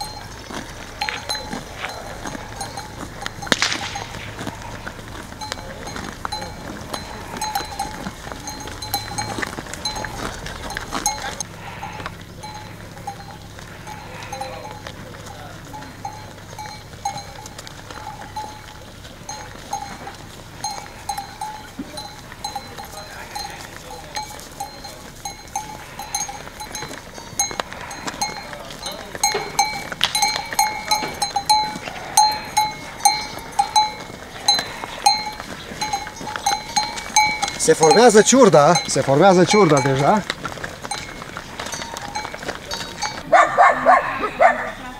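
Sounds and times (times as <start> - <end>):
animal bells clanking: 0.0 - 44.9.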